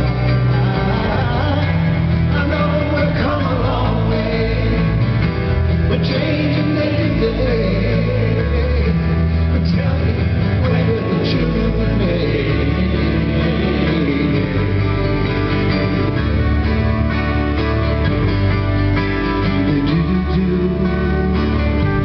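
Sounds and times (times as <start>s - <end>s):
person singing: 0.0s - 16.6s, 19.2s - 22.0s
acoustic guitar: 0.0s - 22.0s
low bass notes: 0.0s - 22.0s.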